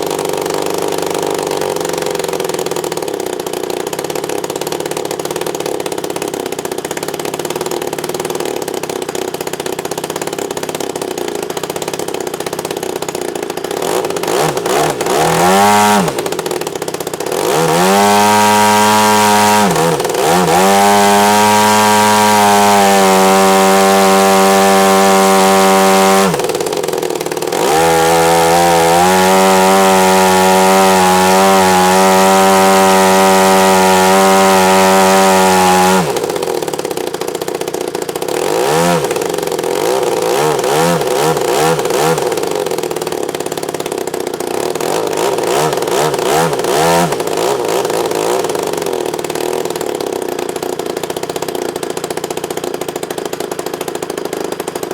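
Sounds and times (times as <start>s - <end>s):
two-stroke engine spinning propeller: 0.0s - 54.9s.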